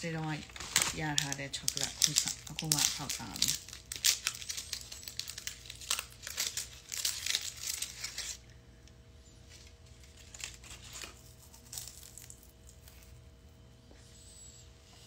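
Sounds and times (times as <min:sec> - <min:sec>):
foil wrapper crinkling: 0:00.1 - 0:08.6, 0:09.5 - 0:13.3.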